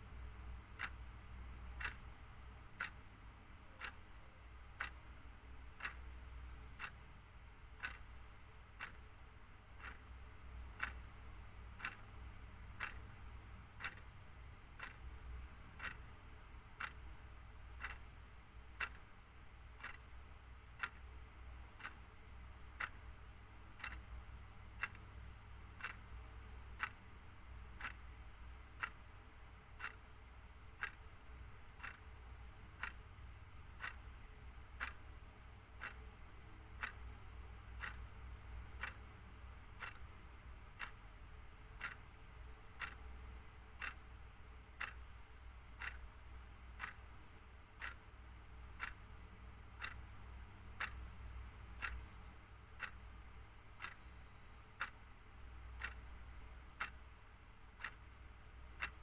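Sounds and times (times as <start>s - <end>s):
clock ticking: 0.0s - 59.0s
faint low hum: 0.0s - 59.0s.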